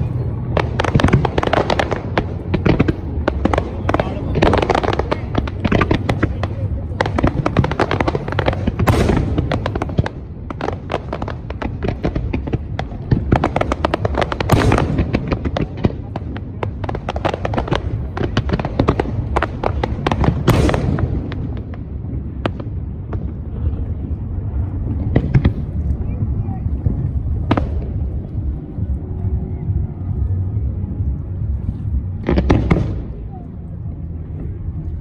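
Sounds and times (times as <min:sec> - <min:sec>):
booming firework bursts: 0:00.0 - 0:34.9
fireworks crackling pops and bangs: 0:00.0 - 0:35.0.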